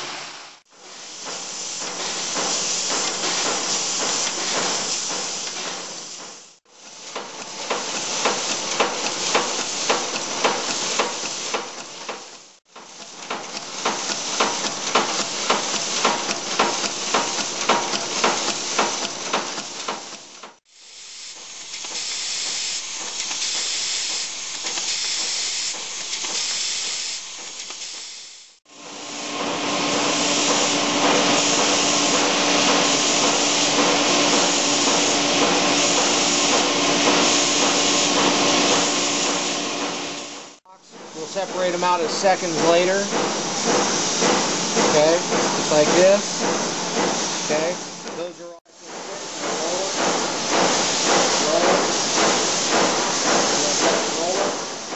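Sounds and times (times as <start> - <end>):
press working with regular strokes: 0.7 - 54.9.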